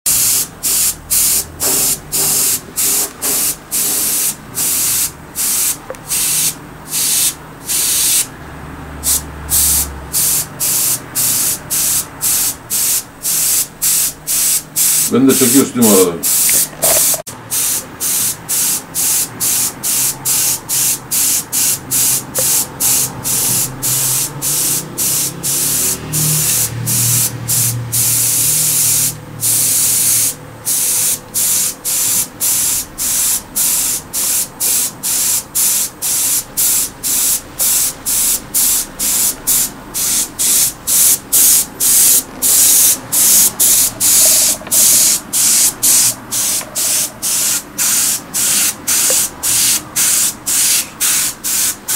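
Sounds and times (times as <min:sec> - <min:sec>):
airbrush hissing sprays: 0:00.1 - 0:08.3, 0:09.0 - 0:51.9.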